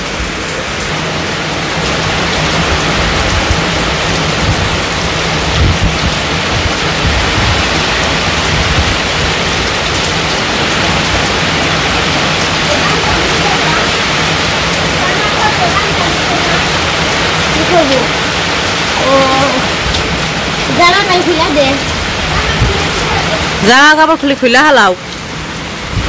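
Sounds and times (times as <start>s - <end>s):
heavy rain on tin roofs: 0.0s - 26.0s
wind gusts on microphone: 1.9s - 19.0s, 19.6s - 23.7s, 25.4s - 26.0s.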